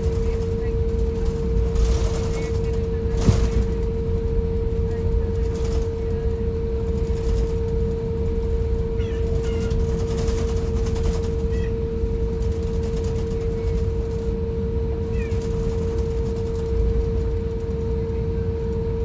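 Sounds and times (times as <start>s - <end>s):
airliner cabin rumble: 0.0s - 19.0s
constant hum-like tone: 0.0s - 19.0s.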